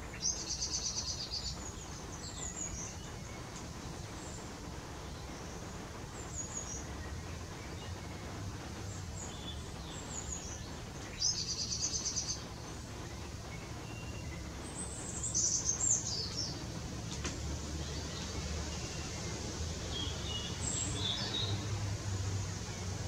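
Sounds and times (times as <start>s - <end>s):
low outdoor rumble: 0.0s - 23.0s
songbirds chirping: 0.0s - 23.0s.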